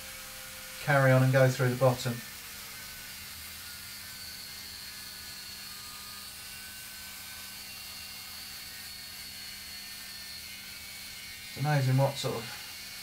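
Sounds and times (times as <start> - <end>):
angle grinder cutting steel: 0.0 - 13.0.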